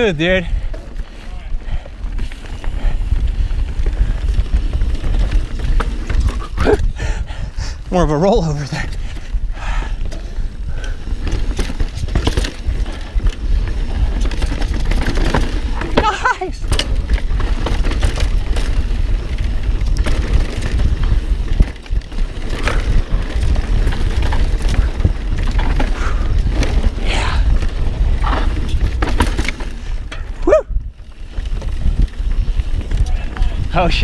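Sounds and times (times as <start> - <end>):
wind and rolling rumble: 0.0 - 34.0.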